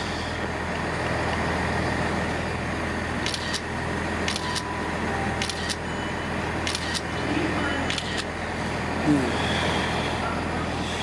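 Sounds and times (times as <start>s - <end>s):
electric train humming: 0.0s - 11.0s.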